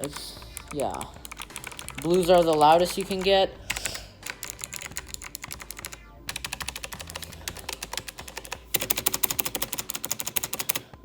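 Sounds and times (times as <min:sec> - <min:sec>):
mechanical keyboard typing: 0:00.0 - 0:11.0.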